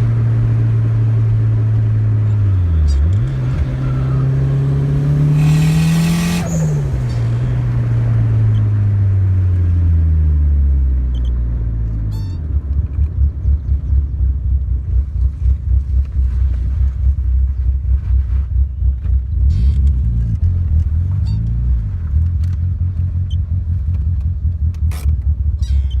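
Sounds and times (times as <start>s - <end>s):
car engine revving down and idling: 0.0s - 26.0s.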